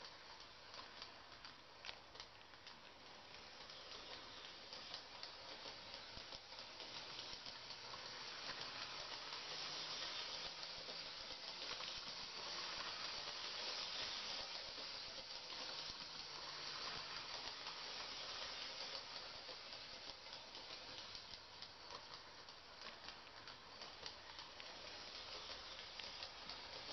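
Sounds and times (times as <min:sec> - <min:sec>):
toy train rattling whir: 0:00.0 - 0:26.9.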